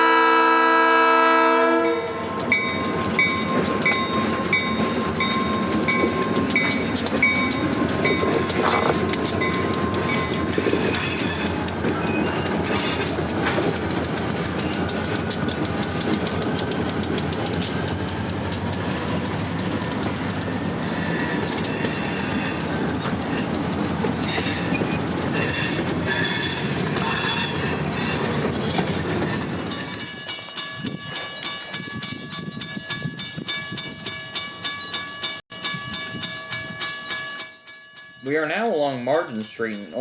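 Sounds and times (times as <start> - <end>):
train wheels rumbling on rails: 0.0 - 40.0
train wheel squeal: 1.9 - 38.1
repeating metallic ringing: 2.3 - 40.0.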